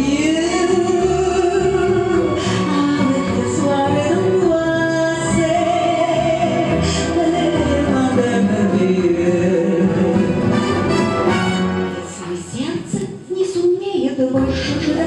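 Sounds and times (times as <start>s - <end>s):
woman singing into a microphone: 0.0s - 10.4s, 12.6s - 15.0s.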